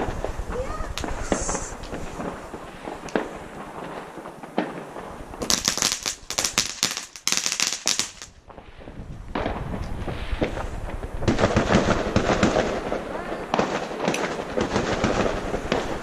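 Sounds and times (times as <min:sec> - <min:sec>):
fireworks popping: 0:00.0 - 0:16.0
ground firework crackling: 0:00.0 - 0:16.0.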